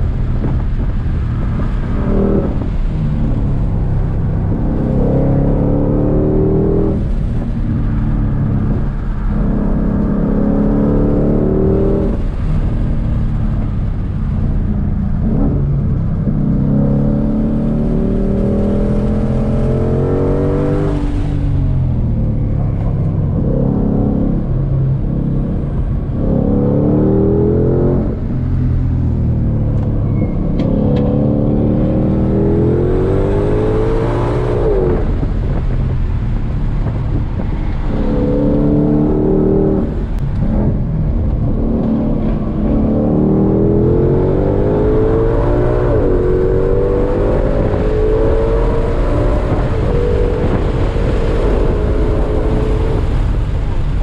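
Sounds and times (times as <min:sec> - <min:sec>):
car engine revving through gears: 0:00.0 - 0:14.2, 0:15.0 - 0:54.0.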